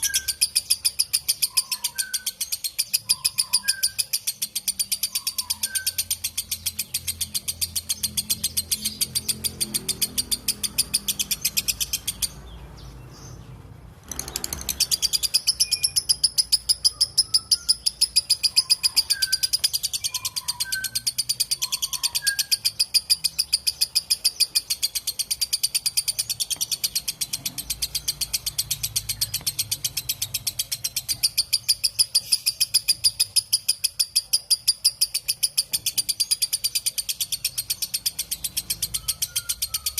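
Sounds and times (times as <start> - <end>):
lovebird shrill chatter: 0.0 - 12.4, 14.0 - 39.9
faint bird chirps: 0.0 - 39.9.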